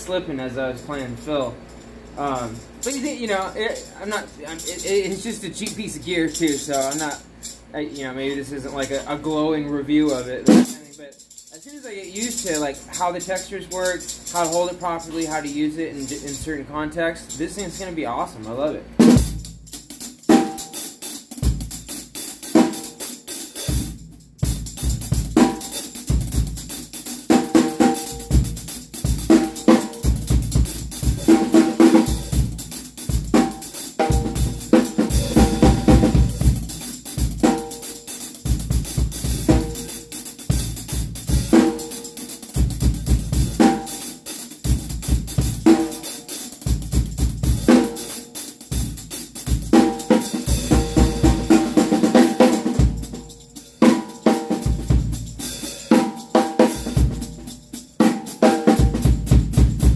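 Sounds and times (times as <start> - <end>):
tambourine jingle: 0.0 - 16.6, 17.2 - 59.9
drum kit playing: 0.8 - 9.4, 10.0 - 16.5, 17.2 - 59.9.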